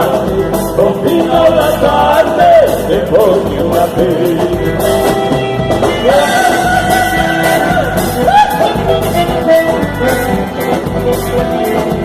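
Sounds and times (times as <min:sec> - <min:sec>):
accordion melody: 0:00.0 - 0:12.0.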